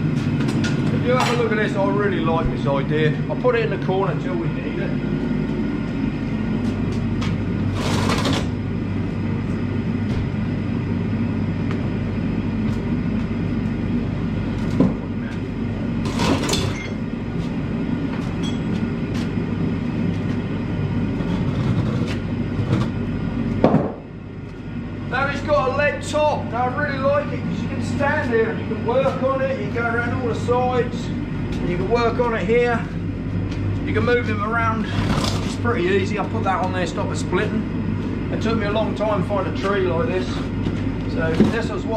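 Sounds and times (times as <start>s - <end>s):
forge furnace drone: 0.0s - 41.9s.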